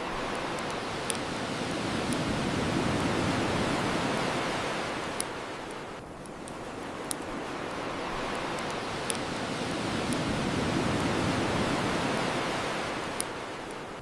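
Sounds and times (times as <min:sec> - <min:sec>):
bonfire crackling: 0:00.0 - 0:14.0
ocean waves washing on shore: 0:00.0 - 0:14.0.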